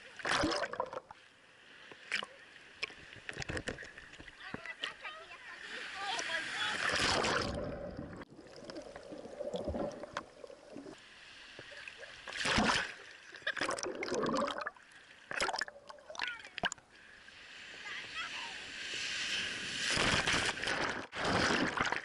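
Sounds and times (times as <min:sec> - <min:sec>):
sea water sloshing and splashing: 0:00.0 - 0:22.0.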